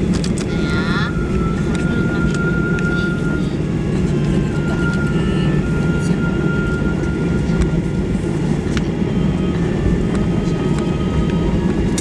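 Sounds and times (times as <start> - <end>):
jet engines rumbling in cabin: 0.0 - 12.0
faint high whine: 0.6 - 12.0.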